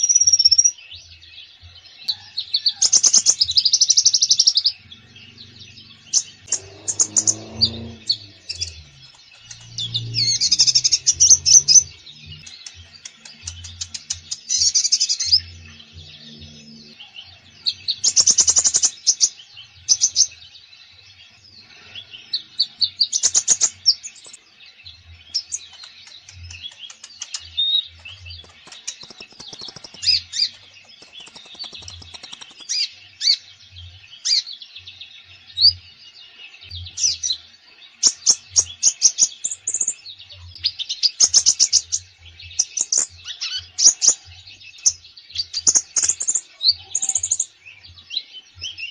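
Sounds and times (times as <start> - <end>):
songbird singing chirping trills: 0.0 - 48.9.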